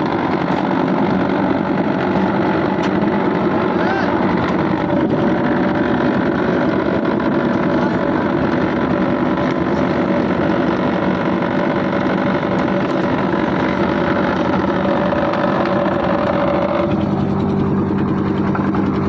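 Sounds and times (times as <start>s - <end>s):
machinery engine running: 0.0s - 19.0s.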